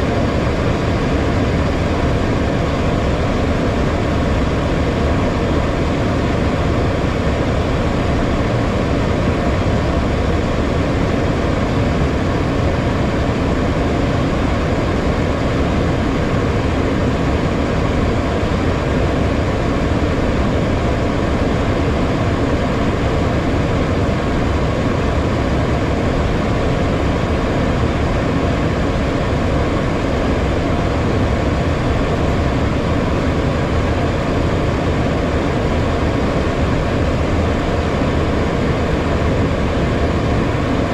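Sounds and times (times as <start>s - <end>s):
airflow rushing over cockpit: 0.0s - 40.9s
jet engines humming: 0.0s - 40.9s.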